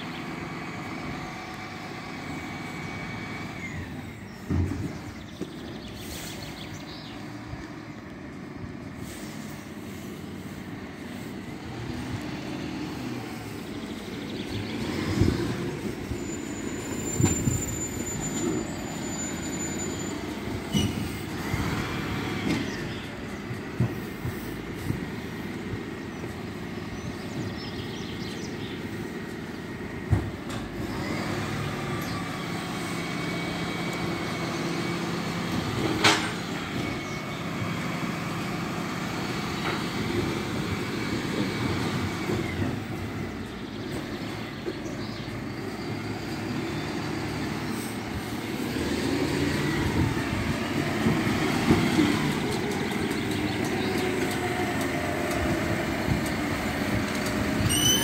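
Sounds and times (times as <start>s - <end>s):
lorry diesel engine running: 0.0s - 58.0s.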